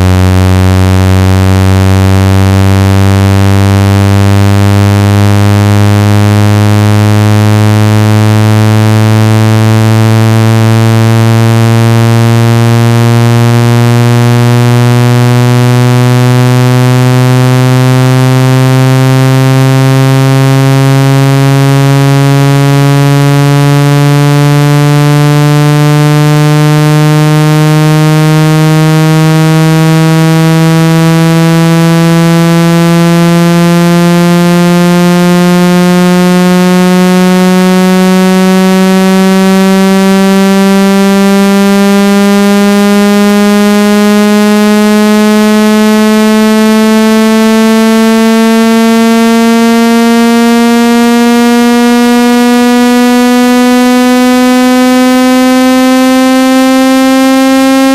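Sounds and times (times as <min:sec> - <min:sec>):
buzzy tone rising in pitch: 0:00.0 - 0:57.9.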